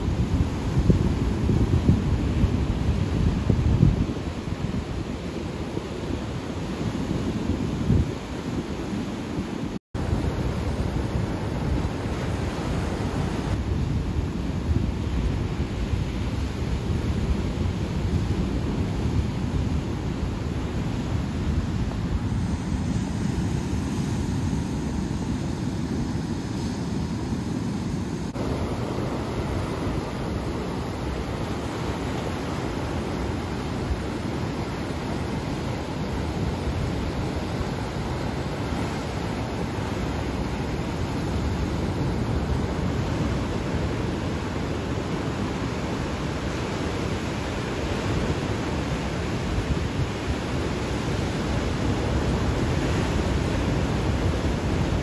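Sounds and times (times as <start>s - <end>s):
wind buffeting microphone: 0.0s - 55.0s
surf washing over rocky shore: 10.0s - 55.0s.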